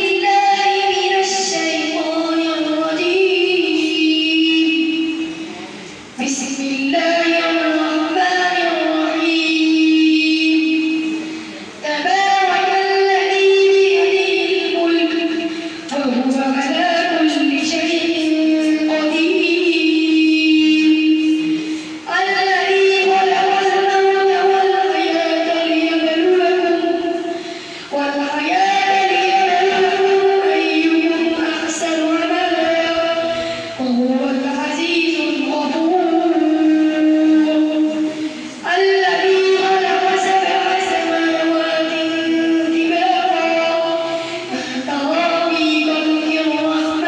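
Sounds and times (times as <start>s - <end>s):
person chanting melodic recitation: 0.0s - 47.0s.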